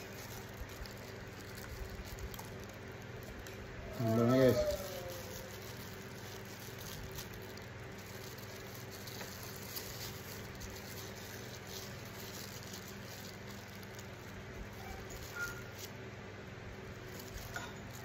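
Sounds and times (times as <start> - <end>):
plastic bag crinkling: 0.0 - 18.0
steady low background hum: 0.0 - 18.0.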